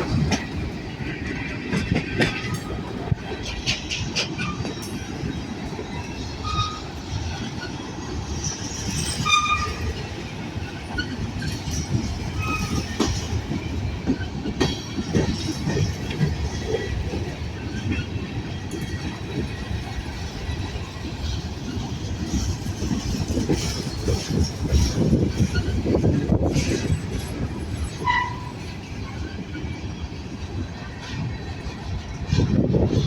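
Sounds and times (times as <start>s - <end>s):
freight train rumbling past: 0.0s - 33.0s
train wheel clatter: 0.0s - 33.0s
train wheel squeals: 1.8s - 33.0s.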